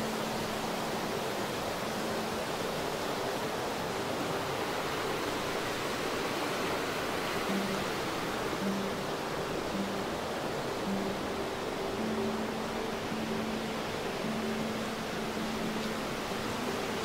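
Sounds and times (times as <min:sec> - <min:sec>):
creek rushing over rocks: 0:00.0 - 0:17.0.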